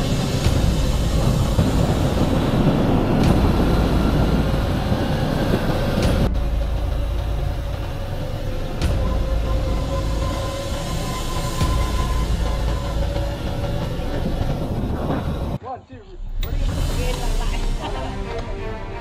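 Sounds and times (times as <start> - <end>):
motorbike engines running: 0.0 - 15.6
wind rumble on microphone: 0.0 - 15.6.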